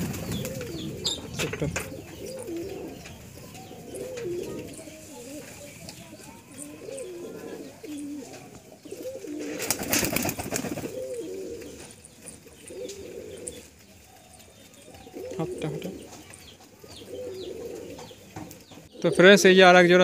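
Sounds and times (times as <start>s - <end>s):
pigeons cooing: 0.0s - 19.6s.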